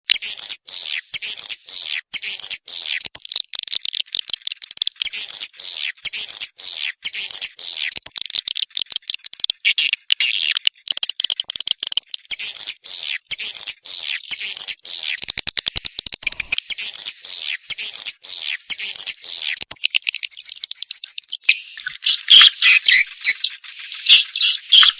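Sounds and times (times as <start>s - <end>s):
fast clicks: 0.1s - 24.9s.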